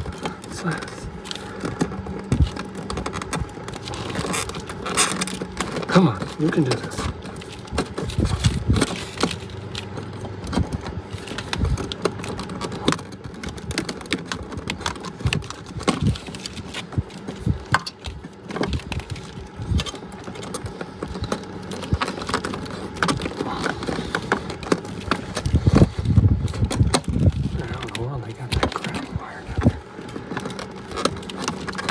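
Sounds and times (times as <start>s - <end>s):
hands handling wiring in metal box: 0.0s - 31.9s.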